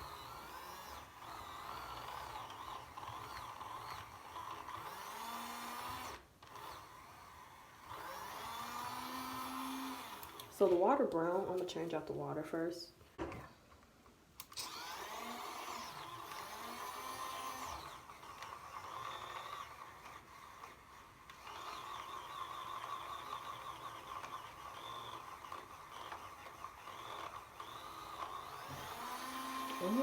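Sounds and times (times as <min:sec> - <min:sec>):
small electric motor humming: 0:00.0 - 0:10.6, 0:14.5 - 0:30.0.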